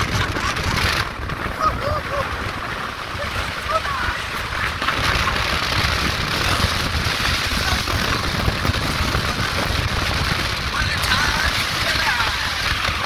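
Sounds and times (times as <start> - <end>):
road and vehicle noise: 0.0 - 13.0
wind buffeting the microphone: 0.0 - 13.0.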